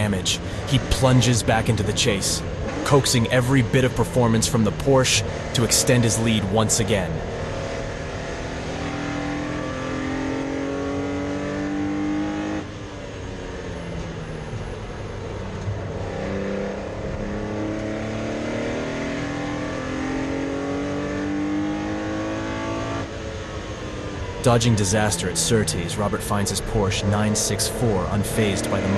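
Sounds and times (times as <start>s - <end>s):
race car engine accelerating: 0.0s - 28.9s.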